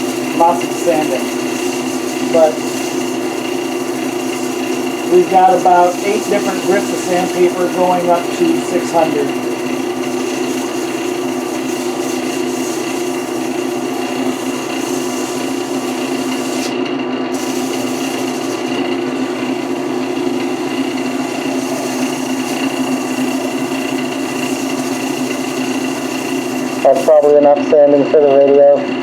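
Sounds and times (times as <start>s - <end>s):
sandpaper hissing on spinning wood: 0.0s - 27.5s
lathe motor hum: 0.0s - 28.3s.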